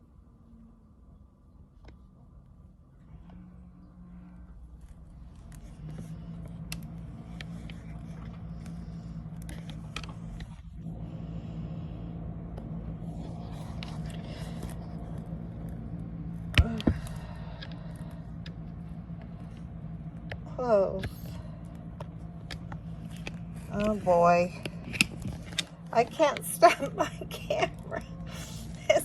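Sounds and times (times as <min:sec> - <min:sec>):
steady low hum: 0:00.0 - 0:29.0
handling clicks and scrapes: 0:04.7 - 0:29.0.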